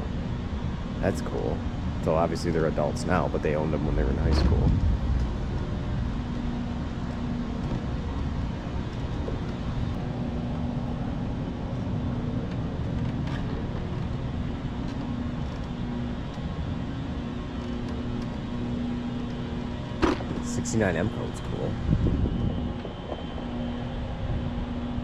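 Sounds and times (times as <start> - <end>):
faint hum: 0.0 - 25.0
hall background rumble: 0.0 - 25.0.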